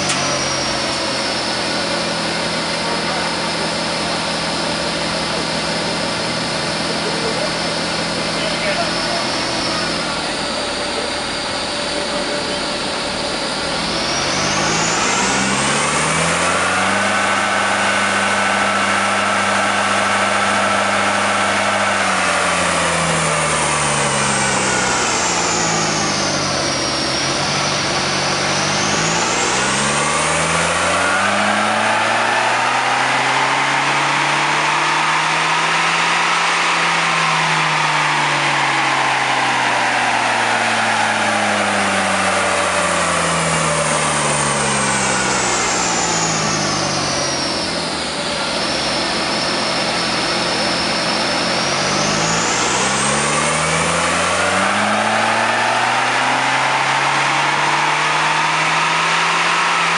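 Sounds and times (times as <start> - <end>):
car engine revving: 0.0 - 59.9
high whine: 0.0 - 59.9.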